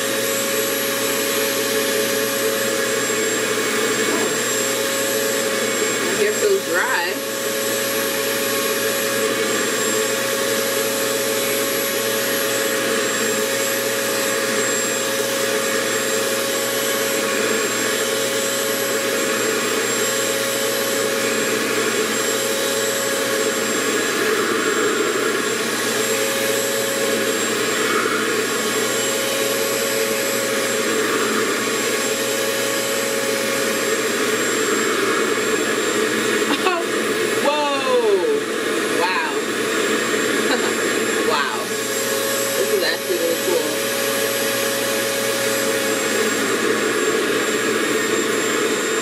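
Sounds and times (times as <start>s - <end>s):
hair dryer running: 0.0s - 49.0s.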